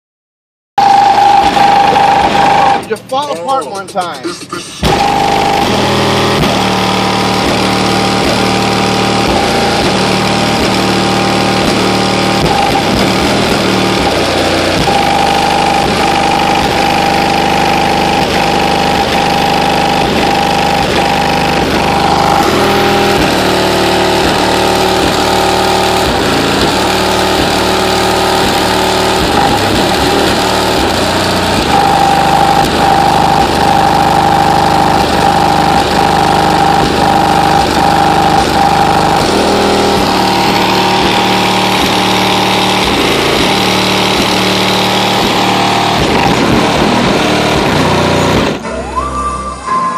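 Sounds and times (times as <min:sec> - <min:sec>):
loud distorted car audio bass: 0:00.8 - 0:49.9.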